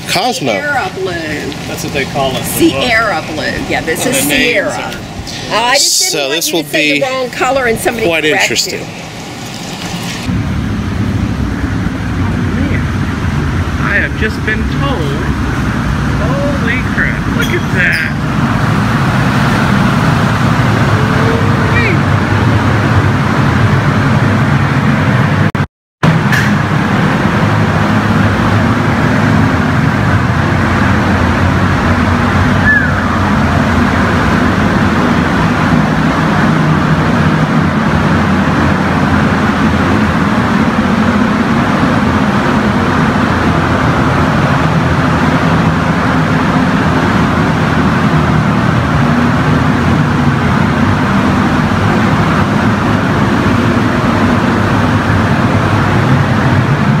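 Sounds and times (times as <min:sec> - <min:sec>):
ventilation fans rushing air: 0:00.0 - 0:57.0.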